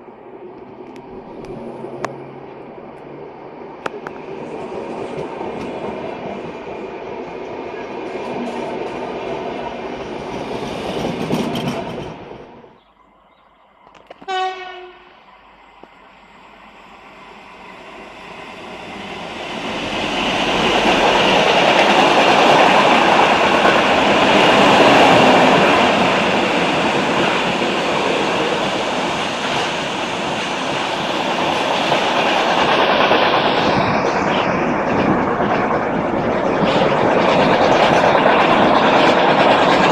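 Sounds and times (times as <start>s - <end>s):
train wheels on rails: 0.0s - 12.9s, 13.7s - 39.9s.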